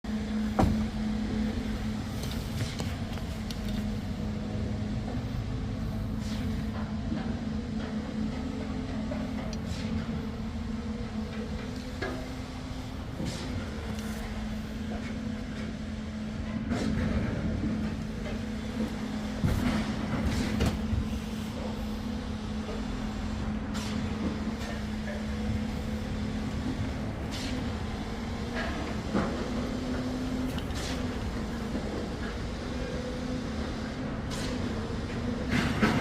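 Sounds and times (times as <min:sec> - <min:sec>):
heavy machinery humming: 0:00.0 - 0:36.0.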